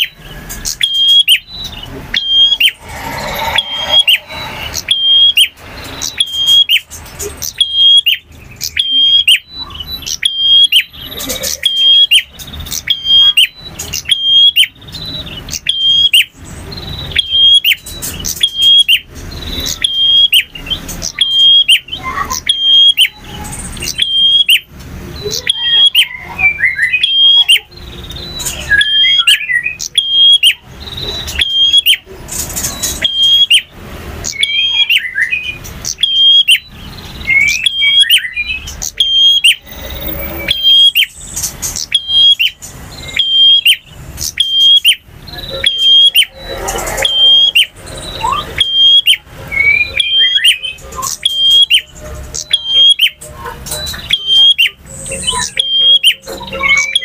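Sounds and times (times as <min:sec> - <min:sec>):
bird singing sharp chirps: 0:00.0 - 0:57.0
bird twittering: 0:00.0 - 0:57.0.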